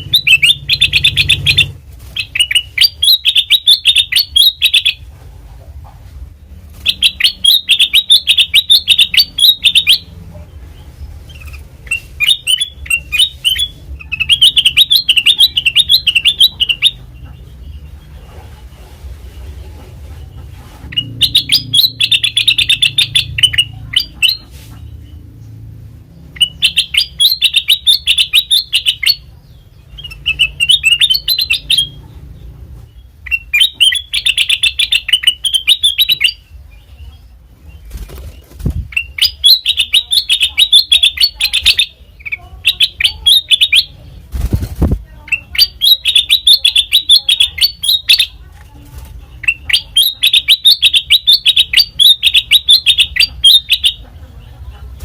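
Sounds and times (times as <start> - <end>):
bulbul chirping: 0.0 - 5.0, 6.8 - 10.1, 10.8 - 18.0, 20.9 - 25.2, 26.2 - 44.2, 45.2 - 48.4, 49.4 - 54.5.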